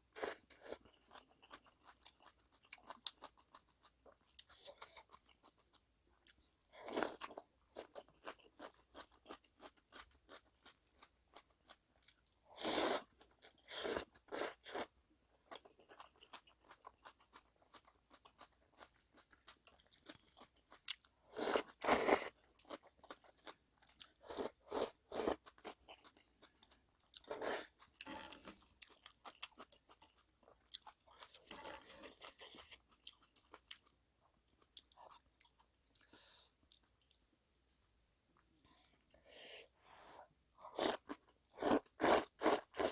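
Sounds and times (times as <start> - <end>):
wet chewing and crunching: 0.2 - 12.3, 13.2 - 37.2.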